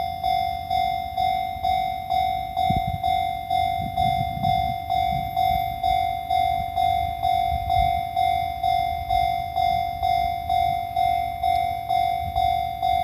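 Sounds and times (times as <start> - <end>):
level crossing electronic bell: 0.0 - 13.0
train rumble: 0.0 - 13.0.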